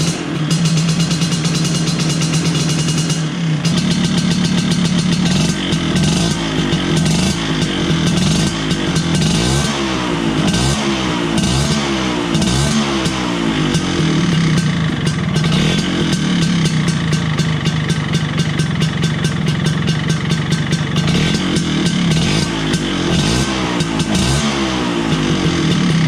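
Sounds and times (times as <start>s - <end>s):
two-stroke scooter engine revving: 0.0s - 26.0s.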